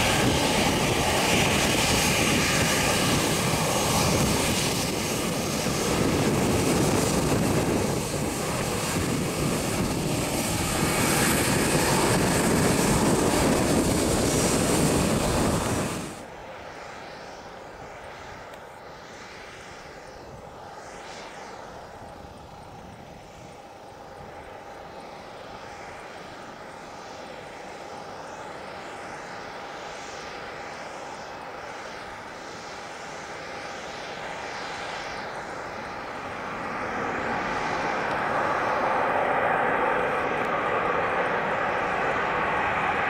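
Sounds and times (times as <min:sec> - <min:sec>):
jet engines rushing and whining: 0:00.0 - 0:43.0.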